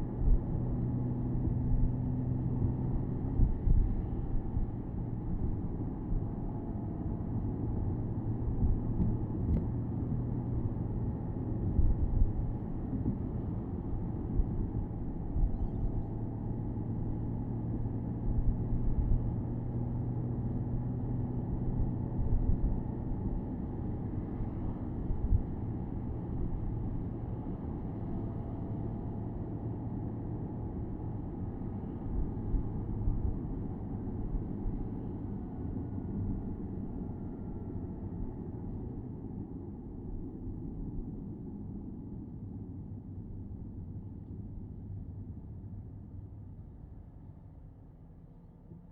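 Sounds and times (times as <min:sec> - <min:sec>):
road rumble: 0:00.0 - 0:41.1.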